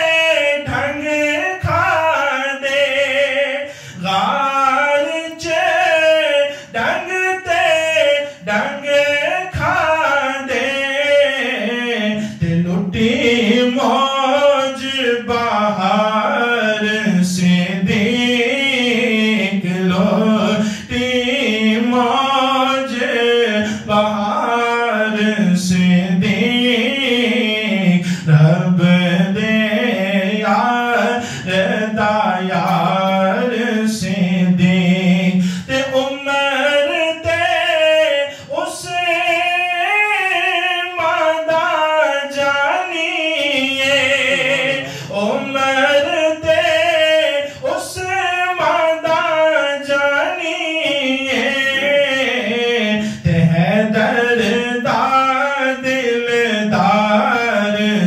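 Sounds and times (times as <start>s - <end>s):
man singing unaccompanied: 0.0s - 58.0s.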